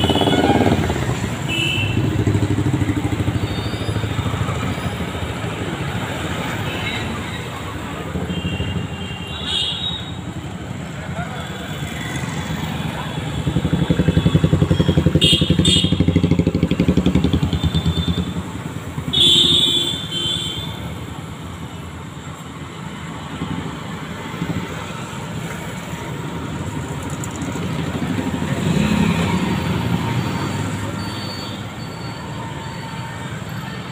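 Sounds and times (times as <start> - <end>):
motorcycles and traffic passing: 0.0 - 33.9.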